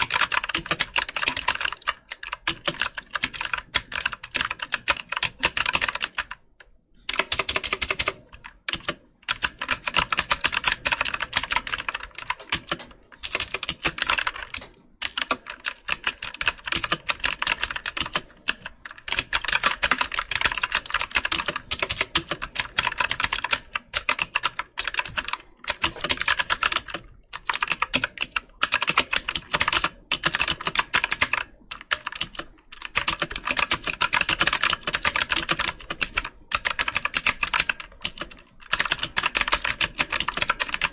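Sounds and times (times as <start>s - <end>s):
typing on computer keyboard: 0.0s - 40.9s.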